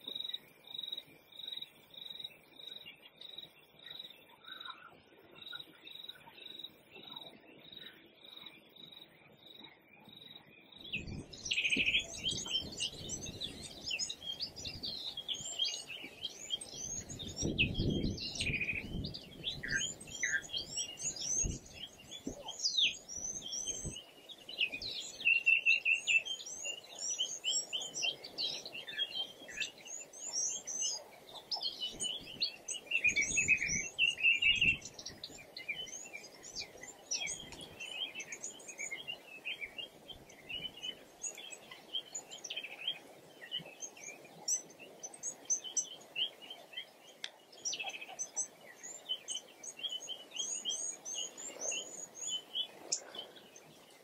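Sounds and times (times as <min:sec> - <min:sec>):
small birds chirping chorus: 0:00.0 - 0:54.0.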